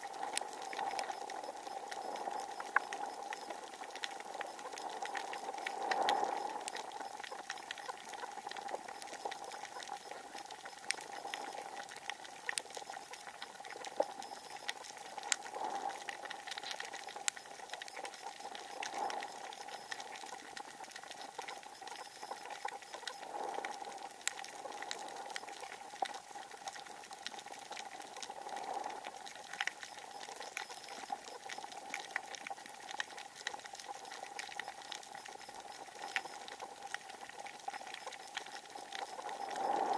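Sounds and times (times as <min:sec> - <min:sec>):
steady underwater hum: 0:00.0 - 0:39.9.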